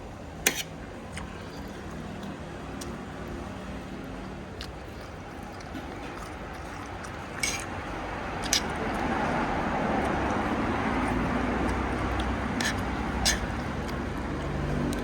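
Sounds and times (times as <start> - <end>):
street food stall background noise: 0.0 - 15.0.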